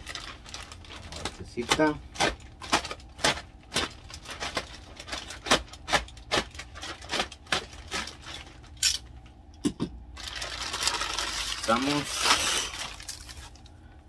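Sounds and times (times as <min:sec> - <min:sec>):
plastic bag crinkling: 0:00.0 - 0:08.8, 0:10.1 - 0:13.8.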